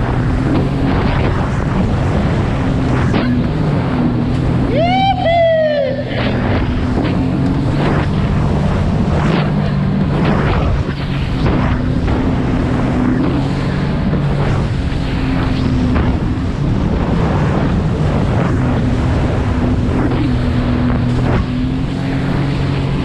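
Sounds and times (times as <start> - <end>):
hull slapping water: 0.0 - 4.7, 6.1 - 23.0
jet ski engine running: 0.0 - 23.0
wind buffeting microphone: 0.0 - 23.0.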